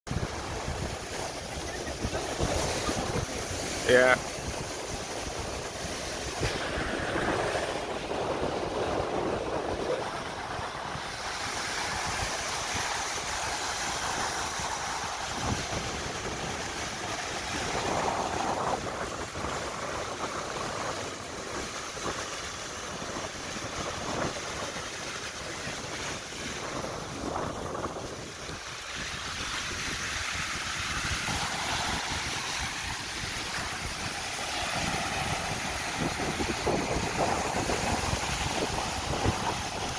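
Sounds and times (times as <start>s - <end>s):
sea waves washing onto beach: 0.1s - 39.9s
wind buffeting microphone: 0.1s - 39.9s.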